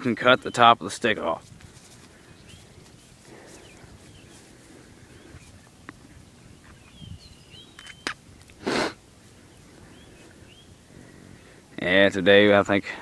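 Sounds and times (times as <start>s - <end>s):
small birds chirping: 0.0s - 12.8s
field background noise: 0.0s - 13.0s.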